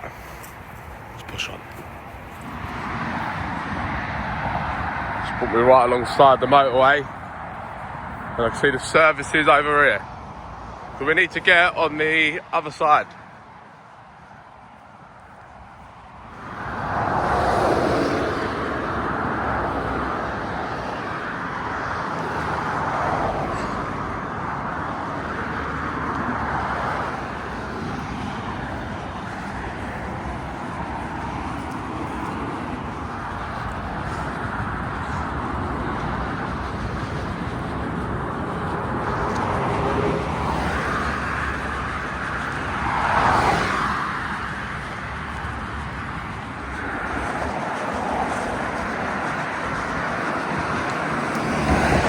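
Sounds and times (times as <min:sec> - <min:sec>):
motorway traffic passing: 0:00.0 - 0:52.0.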